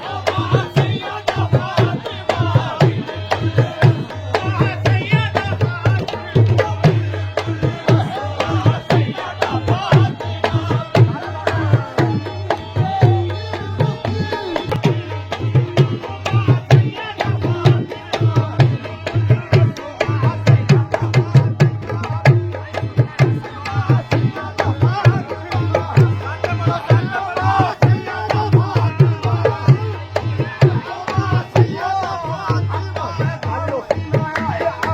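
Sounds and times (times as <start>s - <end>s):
hand drum rhythm: 0.2s - 34.9s.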